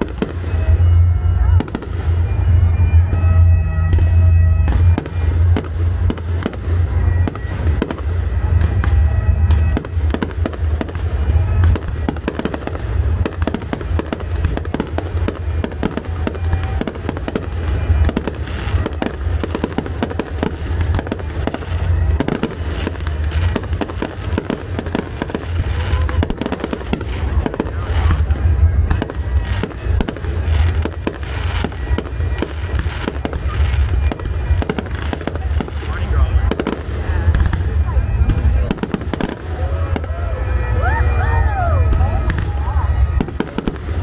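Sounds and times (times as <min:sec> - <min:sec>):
firework bangs and crackles: 0:00.0 - 0:44.0.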